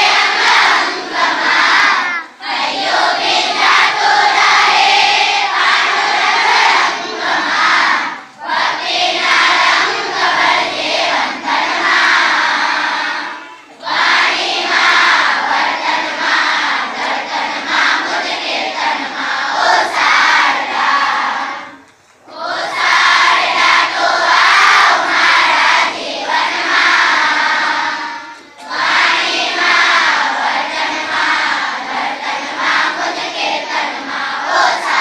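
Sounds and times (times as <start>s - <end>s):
children singing in unison: 0.0s - 35.0s.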